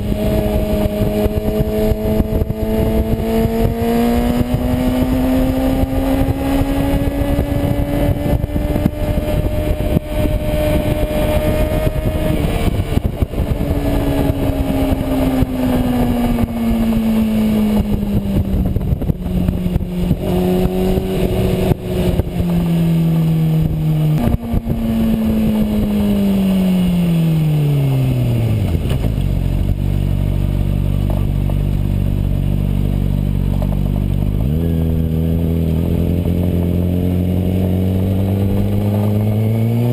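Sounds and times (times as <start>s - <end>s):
motorcycle engine revving and idling: 0.0s - 39.9s
wind noise: 0.0s - 39.9s.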